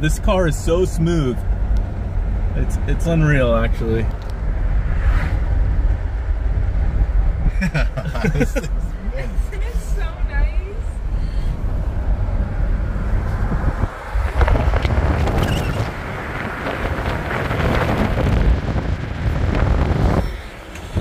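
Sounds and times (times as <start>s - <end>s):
road and engine noise: 0.0s - 21.0s
wind rushing over microphone: 1.4s - 21.0s.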